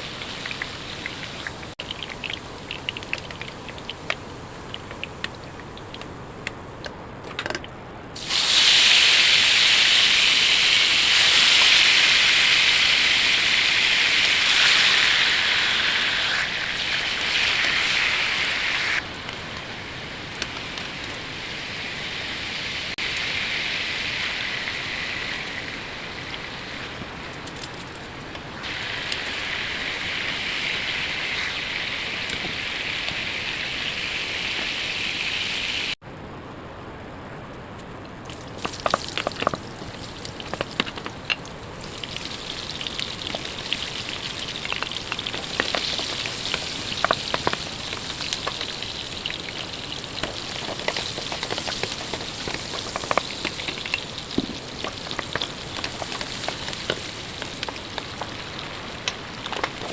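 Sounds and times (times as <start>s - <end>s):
food sizzling in a pan: 0.0s - 6.4s, 8.2s - 27.3s, 28.5s - 36.0s, 38.3s - 59.9s.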